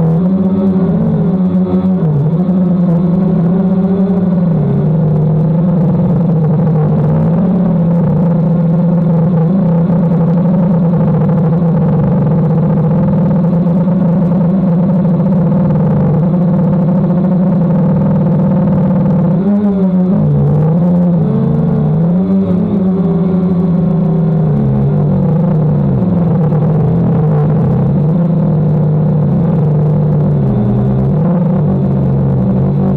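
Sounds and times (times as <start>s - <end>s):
drone propellers humming: 0.0s - 32.9s.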